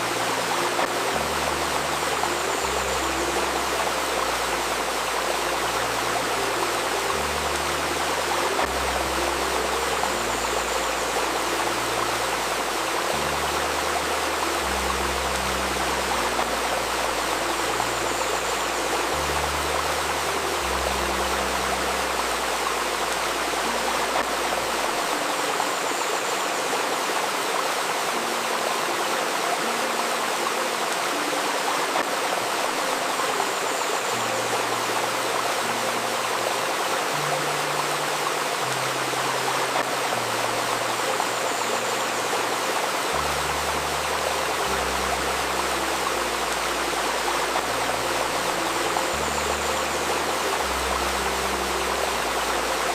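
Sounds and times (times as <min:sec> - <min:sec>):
river flowing and babbling: 0:00.0 - 0:52.9
soft held music tones: 0:00.0 - 0:52.9.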